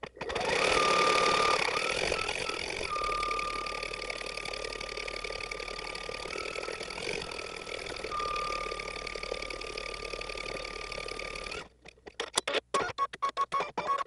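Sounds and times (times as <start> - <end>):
rapid needle clatter: 0.0 - 12.4
embroidery machine whine: 0.3 - 11.7.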